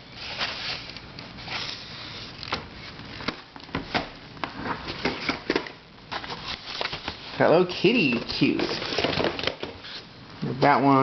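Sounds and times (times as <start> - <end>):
packaging rustling: 0.2 - 7.4, 8.1 - 10.1.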